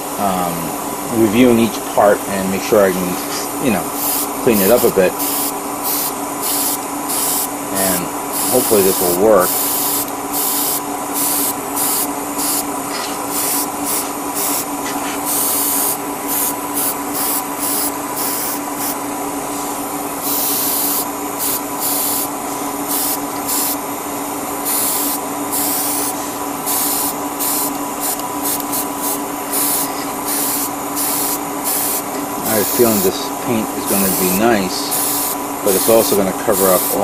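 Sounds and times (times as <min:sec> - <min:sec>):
airbrush hissing bursts: 0:03.9 - 0:23.9, 0:24.6 - 0:37.0.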